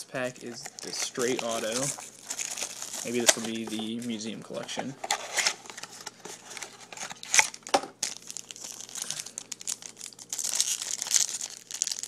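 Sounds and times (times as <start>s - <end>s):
foil pack crinkling and tearing: 0.5s - 12.0s.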